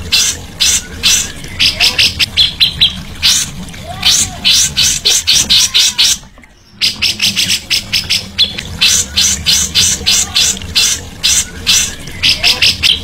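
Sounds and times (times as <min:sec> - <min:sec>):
songbird harsh high calls: 0:00.0 - 0:13.0.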